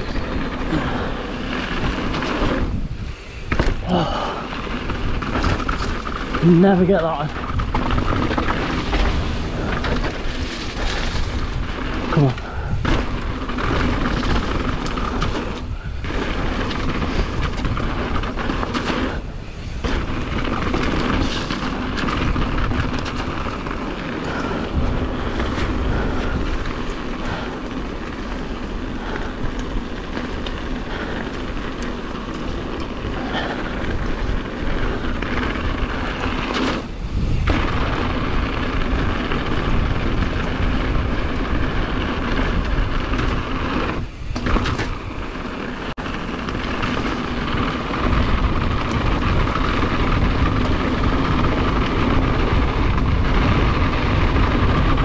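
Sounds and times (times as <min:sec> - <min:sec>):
bike rattling: 0:00.0 - 0:55.0
tyres crunching over stones: 0:00.0 - 0:55.0
wind buffeting microphone: 0:00.0 - 0:55.0.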